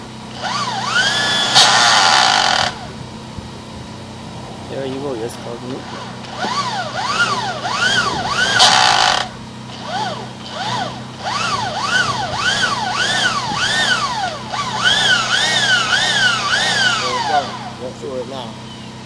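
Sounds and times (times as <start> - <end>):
drain cable machine squealing: 0.3 - 2.8, 4.8 - 19.0.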